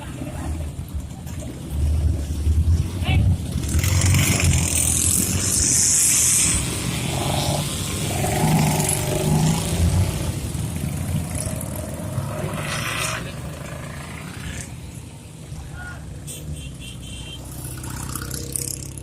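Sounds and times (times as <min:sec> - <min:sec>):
car engines in passing traffic: 0:00.0 - 0:19.0.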